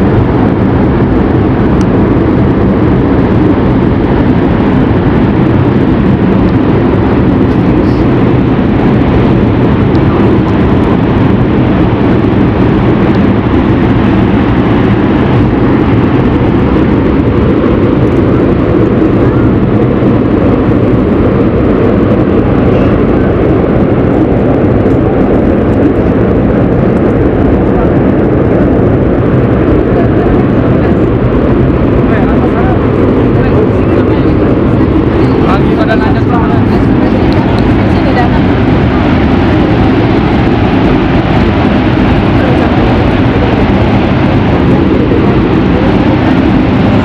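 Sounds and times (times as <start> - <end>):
volcano roaring: 0.0 - 47.0.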